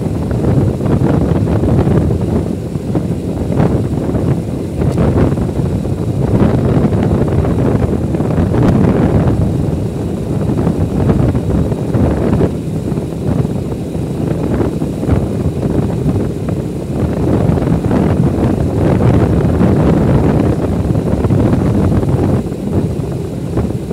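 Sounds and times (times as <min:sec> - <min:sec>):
motorcycle engine and road rumble: 0:00.0 - 0:23.9
wind buffeting microphone: 0:00.0 - 0:23.9.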